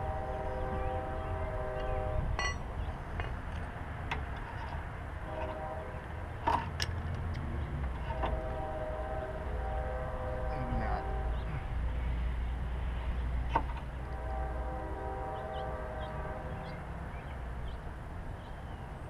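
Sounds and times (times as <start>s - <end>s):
constant low rumble: 0.0s - 19.0s.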